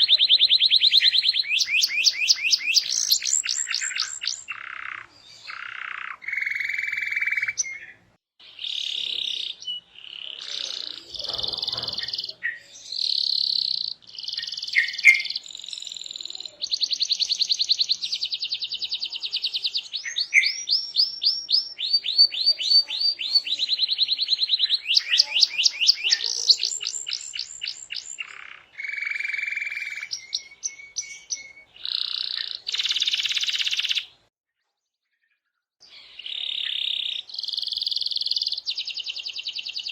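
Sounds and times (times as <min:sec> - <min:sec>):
canary singing: 0:00.0 - 0:34.2, 0:35.8 - 0:39.9.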